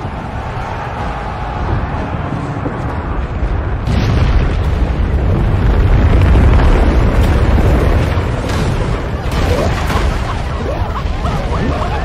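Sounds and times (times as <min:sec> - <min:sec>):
avalanche deep rumble: 0:00.0 - 0:12.0.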